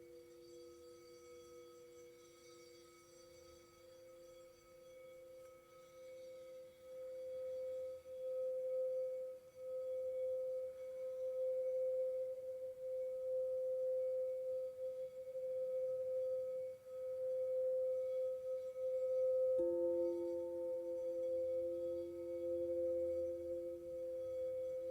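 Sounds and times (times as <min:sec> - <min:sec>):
crystal singing bowls ringing: 0:00.0 - 0:24.9.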